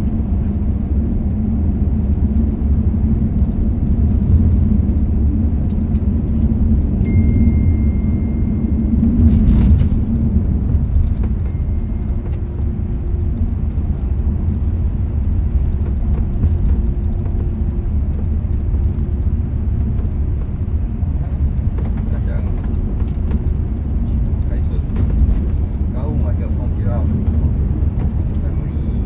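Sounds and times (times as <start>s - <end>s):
road vehicle rumbling: 0.0s - 29.0s.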